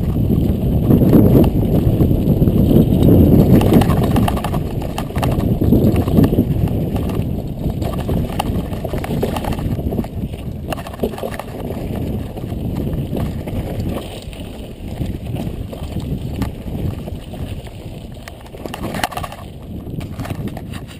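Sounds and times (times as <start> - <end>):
bike rattling over rocks: 0.0 - 20.9
bike tyres rumbling on dirt: 0.0 - 20.9
wind on microphone: 0.0 - 20.9.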